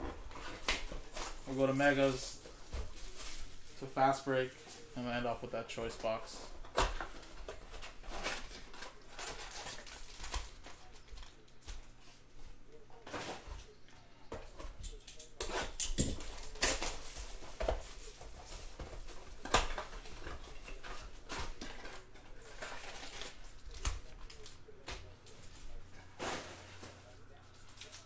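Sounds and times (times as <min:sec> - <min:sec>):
plastic wrapping rustling: 0:00.0 - 0:13.8, 0:14.4 - 0:28.0.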